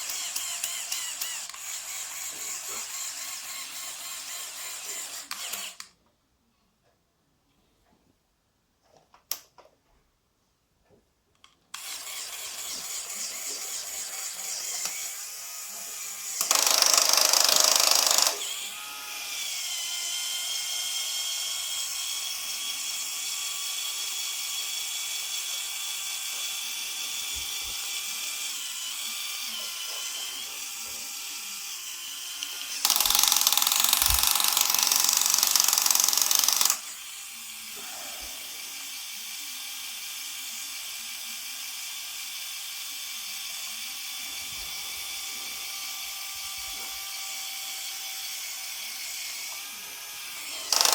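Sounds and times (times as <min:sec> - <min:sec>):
small electric motor whirring: 0:00.0 - 0:05.9, 0:11.7 - 0:50.9.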